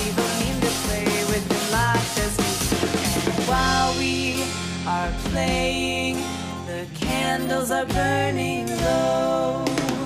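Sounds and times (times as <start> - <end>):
music with drums and held notes: 0.0 - 10.0.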